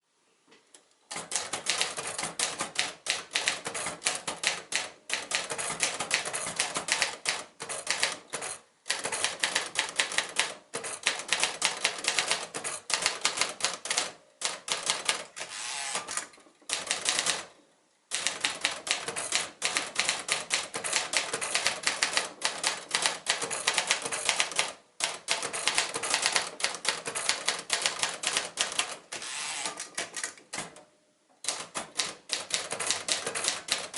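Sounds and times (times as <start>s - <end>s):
typewriter typing: 1.1s - 17.5s, 18.1s - 30.8s, 31.4s - 33.9s.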